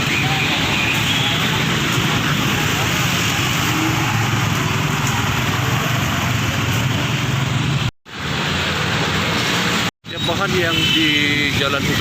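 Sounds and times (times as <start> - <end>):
traffic rushing noise: 0.0 - 12.0
vehicle engines humming: 0.0 - 12.0.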